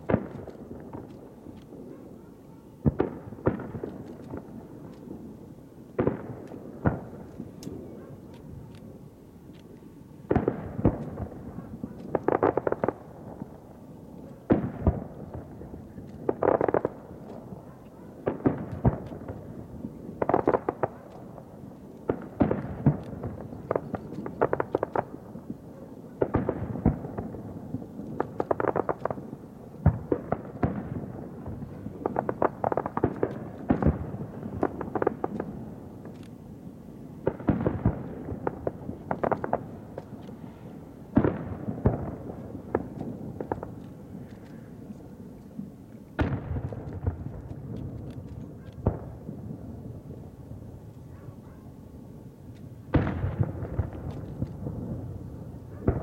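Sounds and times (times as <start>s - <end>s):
firework crackling: 2.7s - 51.1s
firework shells bursting with booms: 2.8s - 9.0s, 10.2s - 36.1s, 37.2s - 44.7s, 45.5s - 50.6s, 52.6s - 56.0s.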